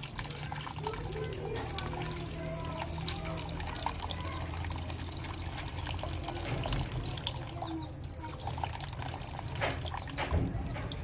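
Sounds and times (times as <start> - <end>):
water trickling onto a barrel lid: 0.0 - 11.0.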